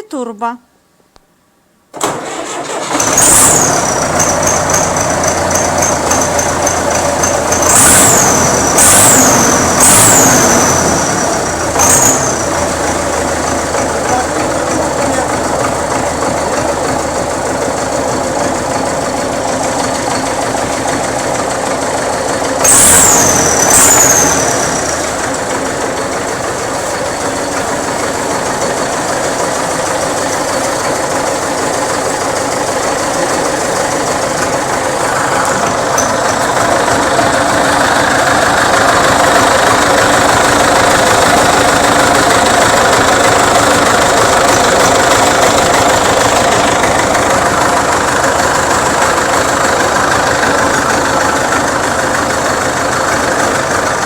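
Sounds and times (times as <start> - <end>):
tractor diesel engine running: 2.0 - 54.0.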